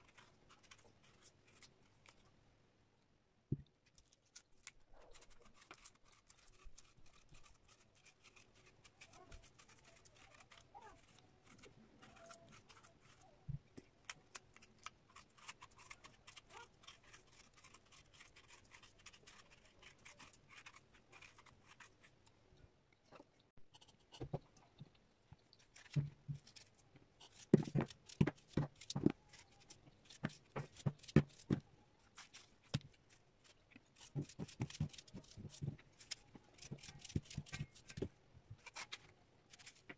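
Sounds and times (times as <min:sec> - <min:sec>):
knife scraping fruit skin: 0:00.0 - 0:02.3, 0:04.0 - 0:22.3, 0:25.6 - 0:39.9.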